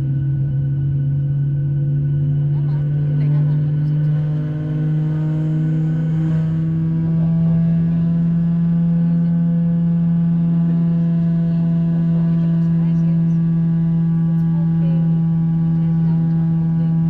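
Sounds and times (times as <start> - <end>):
aircraft cabin droning hum: 0.0 - 17.0.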